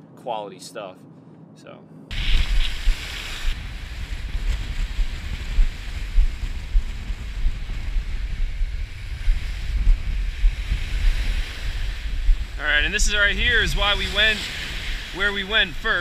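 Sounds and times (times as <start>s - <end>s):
small waves breaking on sand: 2.1s - 16.0s
wind gusting on microphone: 2.1s - 16.0s.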